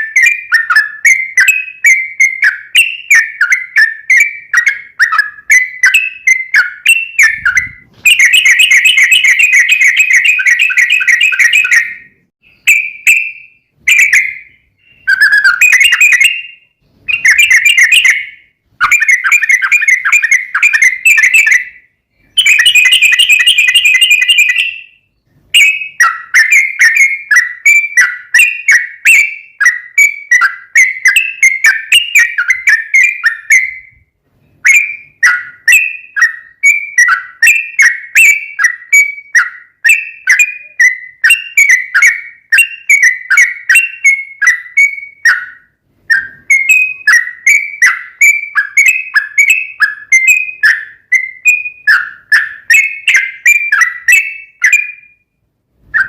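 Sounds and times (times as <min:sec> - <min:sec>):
bird singing rapid chirps: 0:00.0 - 0:55.3.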